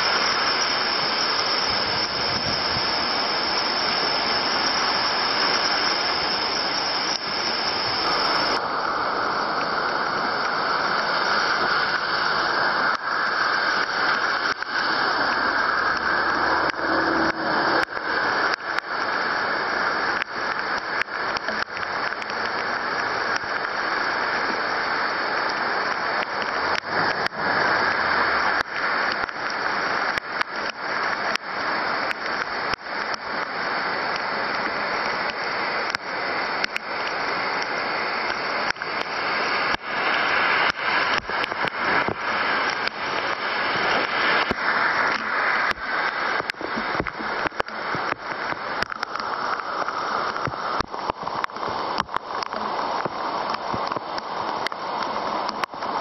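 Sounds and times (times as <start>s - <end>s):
heavy rain on asphalt: 0.0s - 56.0s
raindrops ticking near microphone: 0.0s - 56.0s.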